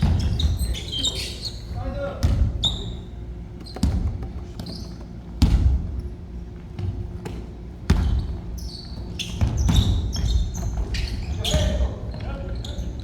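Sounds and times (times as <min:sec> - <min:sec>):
basketball bouncing on gym floor: 0:00.0 - 0:01.2, 0:01.8 - 0:13.0
sneaker squeaks: 0:00.0 - 0:06.1, 0:06.7 - 0:13.0.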